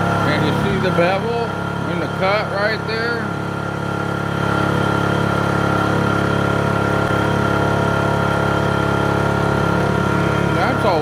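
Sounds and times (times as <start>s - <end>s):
milling machine whining: 0.0s - 11.0s.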